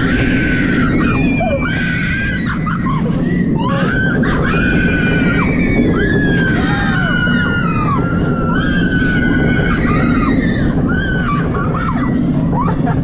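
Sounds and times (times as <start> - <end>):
riders screaming: 0.0 - 13.0
wind buffeting microphone: 0.0 - 13.0.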